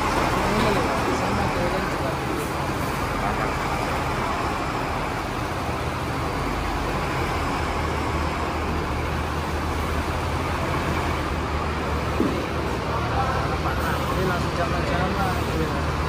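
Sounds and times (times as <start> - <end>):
heavy equipment engines rumbling: 0.0 - 16.0.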